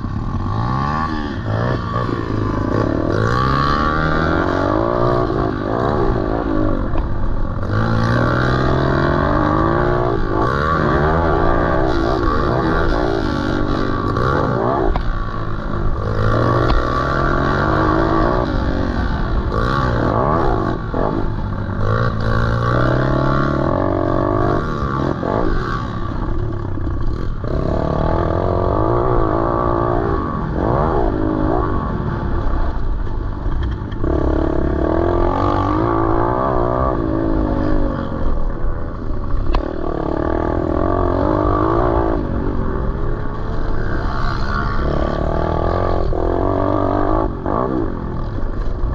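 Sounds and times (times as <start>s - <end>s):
pit bike engine revving: 0.0s - 48.9s.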